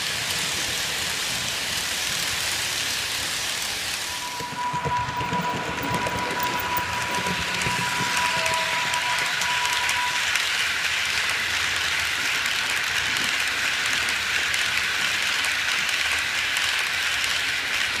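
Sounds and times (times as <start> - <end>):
model train wheels rattling: 0.0 - 18.0.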